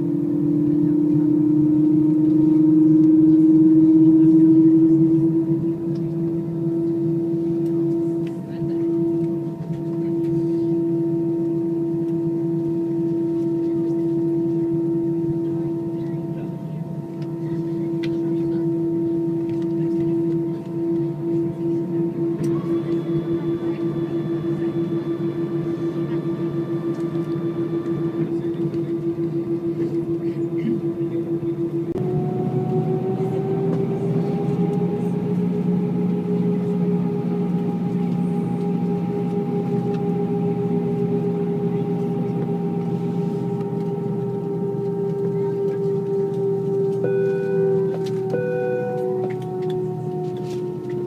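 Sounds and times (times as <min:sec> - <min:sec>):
airliner cabin hum: 0:00.0 - 0:51.0
low engine rumble: 0:00.0 - 0:51.0.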